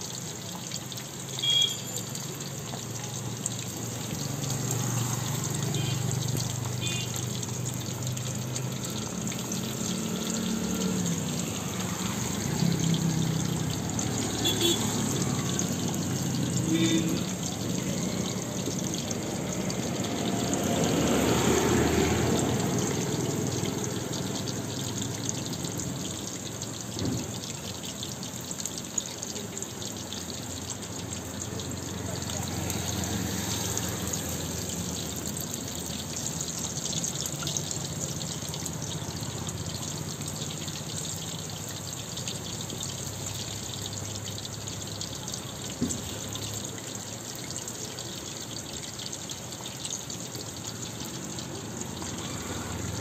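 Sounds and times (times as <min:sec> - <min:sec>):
food deep-frying in oil: 0:00.0 - 0:53.0.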